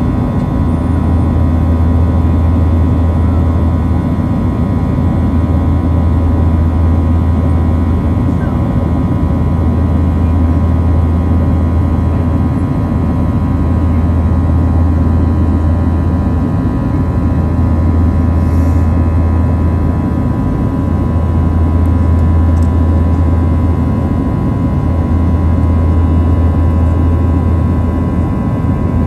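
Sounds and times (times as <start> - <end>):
jet engine drone: 0.0 - 29.0.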